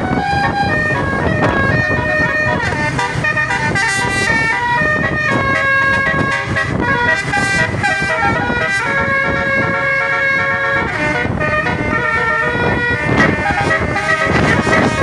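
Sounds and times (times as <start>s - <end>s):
bus air horns playing a melody: 0.0s - 15.0s
low rumble: 0.0s - 15.0s.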